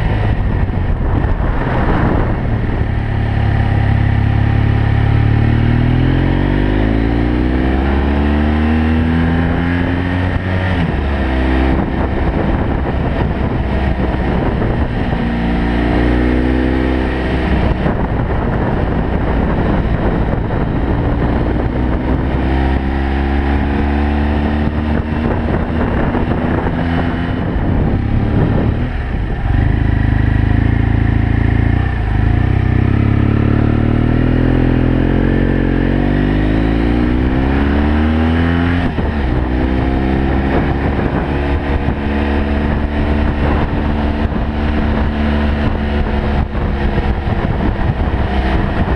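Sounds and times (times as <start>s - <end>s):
steady rushing noise: 0.0s - 8.2s, 8.8s - 48.9s
motorcycle engine pulling uphill: 0.0s - 48.9s.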